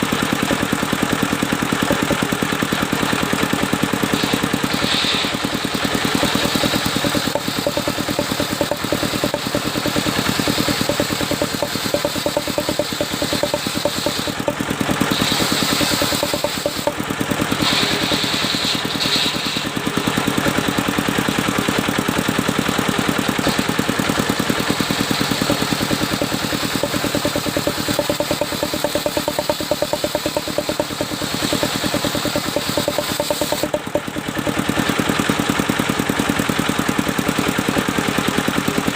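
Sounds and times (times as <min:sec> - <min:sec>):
sawmill engine chugging: 0:00.0 - 0:38.9.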